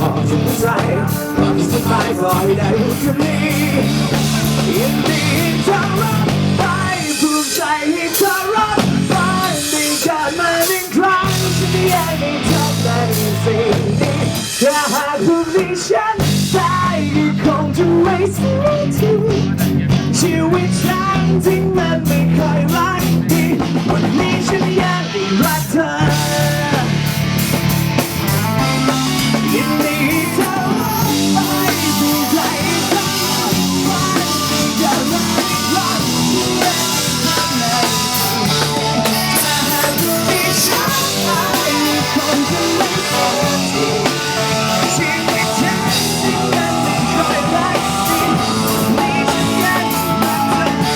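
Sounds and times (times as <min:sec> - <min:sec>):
pop-rock band playing: 0:00.0 - 0:50.9.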